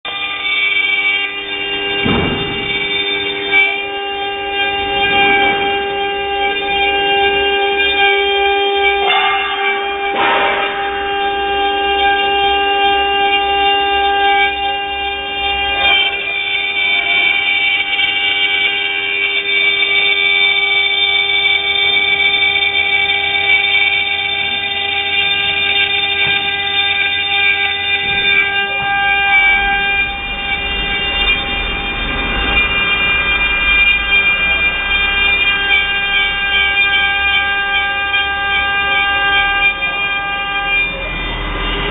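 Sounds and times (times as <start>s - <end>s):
cnc router mechanical whine: 0.1s - 41.9s.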